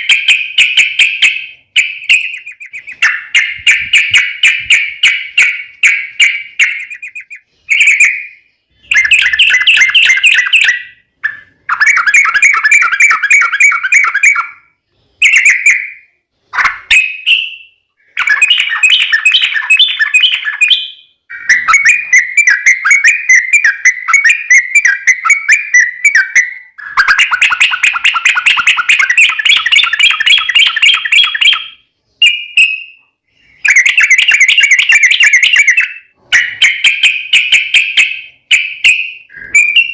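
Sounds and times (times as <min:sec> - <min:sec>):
bird singing fast chattering notes: 0:00.0 - 0:14.6, 0:16.9 - 0:32.9, 0:33.5 - 0:39.9.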